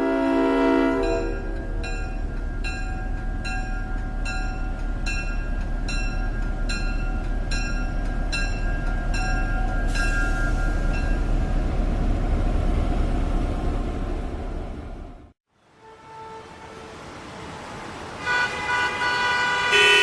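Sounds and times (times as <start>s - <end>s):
train rumbling past: 0.0s - 19.8s.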